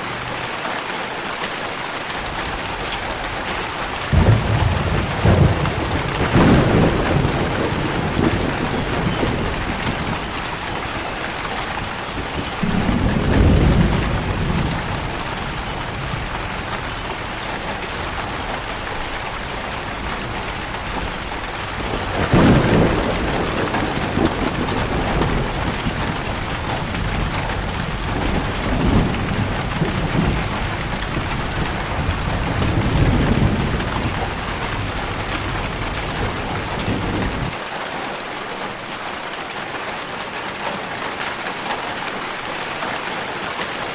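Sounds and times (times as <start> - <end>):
steady rain: 0.0 - 43.9
thunder rolling: 2.2 - 37.5.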